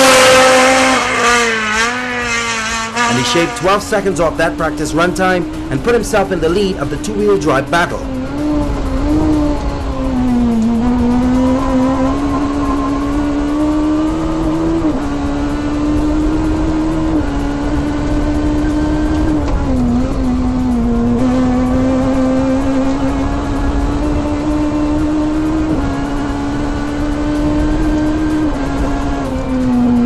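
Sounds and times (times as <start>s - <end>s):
rally car engine revving high: 0.0s - 30.0s.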